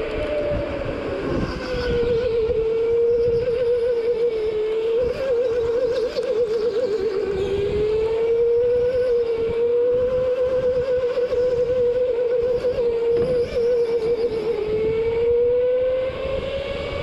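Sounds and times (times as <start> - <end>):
go-kart engine whine: 0.0 - 17.0.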